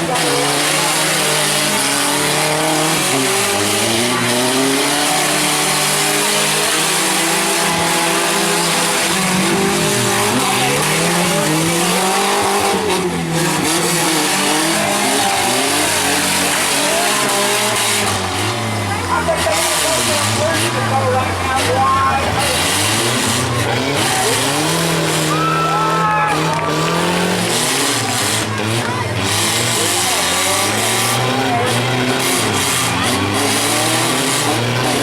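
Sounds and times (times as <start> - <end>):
truck and van engines revving: 0.0 - 35.0.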